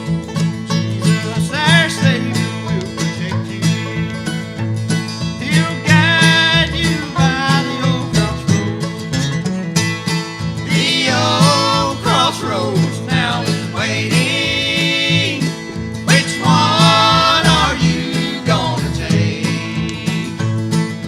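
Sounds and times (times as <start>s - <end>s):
bluegrass band playing: 0.0s - 21.0s.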